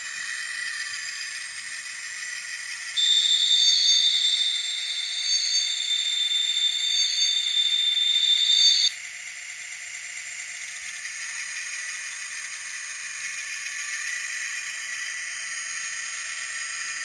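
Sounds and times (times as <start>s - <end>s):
model locomotive running sound: 0.0s - 17.0s.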